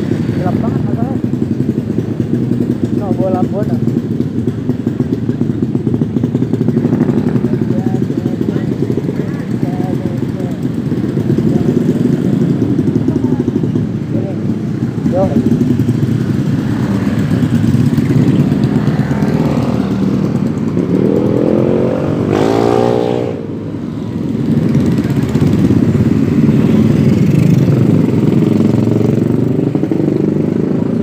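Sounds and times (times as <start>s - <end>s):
motorcycle engines rumbling: 0.0s - 31.0s
motorcycle revving up: 0.0s - 31.0s.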